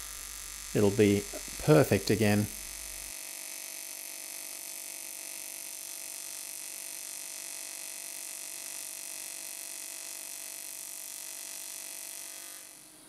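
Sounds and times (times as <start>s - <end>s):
welding arc buzzing and hissing: 0.0s - 13.0s.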